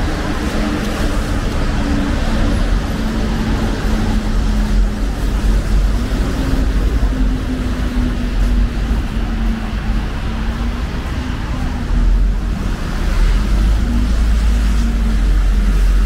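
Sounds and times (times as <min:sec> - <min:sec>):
engine hum: 0:00.0 - 0:16.0
rumble of vehicles on road: 0:00.0 - 0:16.0.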